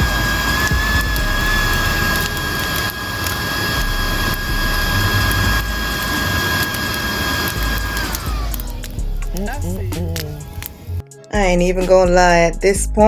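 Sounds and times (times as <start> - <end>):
high whistle: 0.0 - 10.6
wood fire crackling: 0.0 - 12.0.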